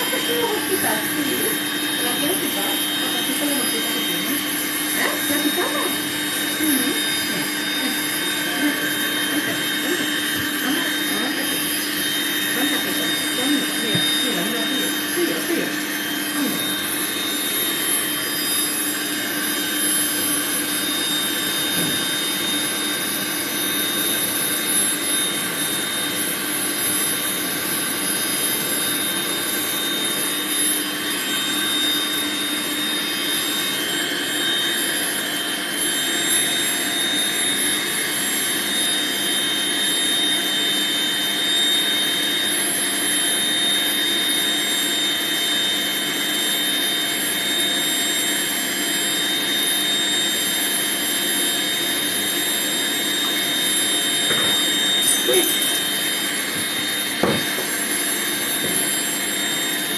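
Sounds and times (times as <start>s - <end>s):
dryer blowing with motor whine: 0.0s - 59.9s.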